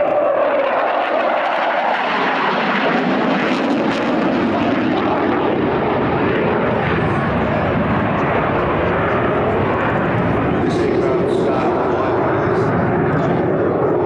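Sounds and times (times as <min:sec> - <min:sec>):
jet engine roaring past: 0:00.0 - 0:14.0.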